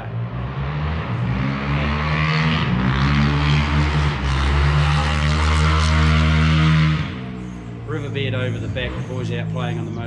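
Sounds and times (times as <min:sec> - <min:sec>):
motorbike engine revving: 0:00.0 - 0:10.0.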